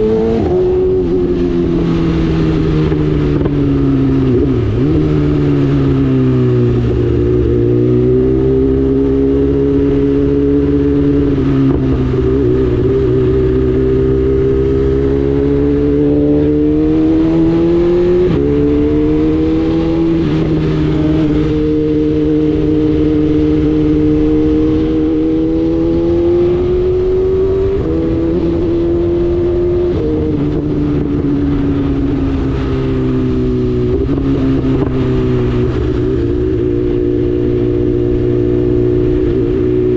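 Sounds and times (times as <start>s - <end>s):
motorcycle engine running loudly: 0.0s - 39.9s.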